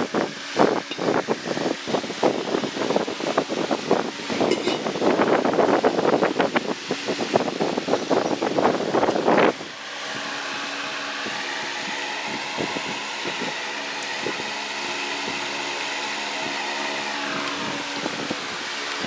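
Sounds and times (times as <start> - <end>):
gusty rumbling noise: 0.0 - 19.0
mechanical hum with fixed tones: 0.0 - 19.0.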